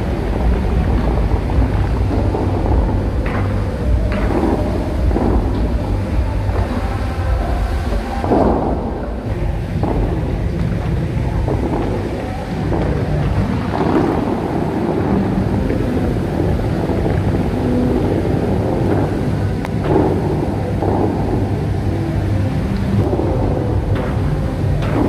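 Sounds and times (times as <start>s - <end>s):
fountain water jets rushing: 0.0s - 25.0s
wind buffeting microphone: 0.0s - 25.0s.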